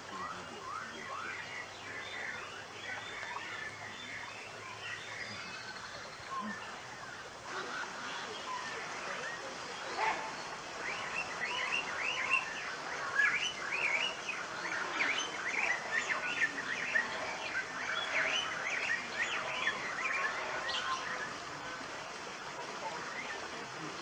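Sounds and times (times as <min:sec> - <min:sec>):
many birds chirping: 0:00.0 - 0:24.0.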